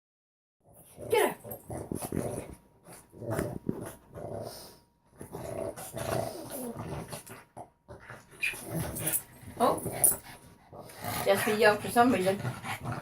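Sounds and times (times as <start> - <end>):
dogs play-growling: 0.6 - 13.0.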